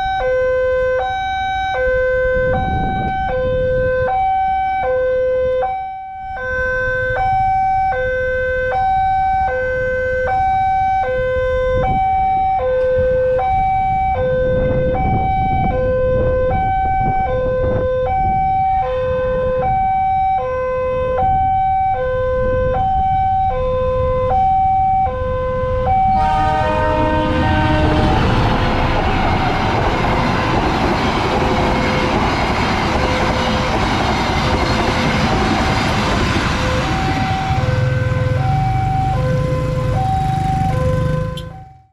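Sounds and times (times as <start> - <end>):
passing train rumble: 0.0 - 41.9
two-tone level crossing alarm: 0.0 - 41.9.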